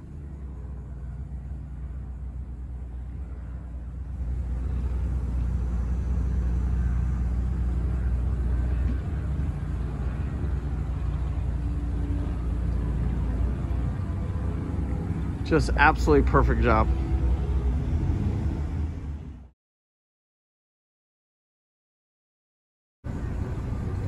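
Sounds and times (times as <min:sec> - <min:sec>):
boat engine idling: 0:00.0 - 0:19.5, 0:23.1 - 0:24.0.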